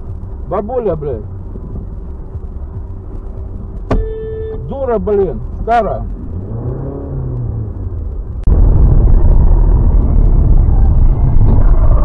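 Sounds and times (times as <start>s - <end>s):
heavy low rumble of car: 0.0s - 12.0s
road and engine rumble in car: 0.0s - 12.0s.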